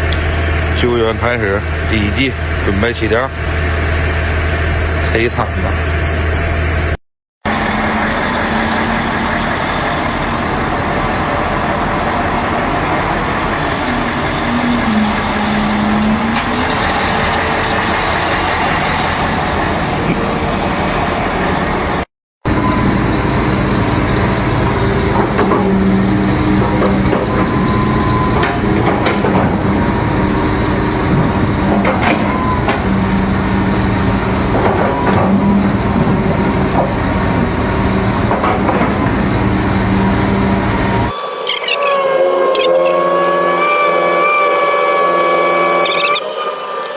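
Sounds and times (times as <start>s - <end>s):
diesel machinery engines running: 0.0s - 46.9s.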